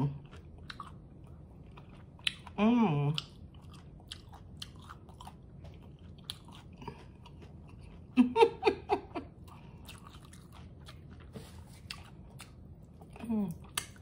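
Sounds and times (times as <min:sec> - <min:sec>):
crunchy taco eating: 0:00.0 - 0:14.0.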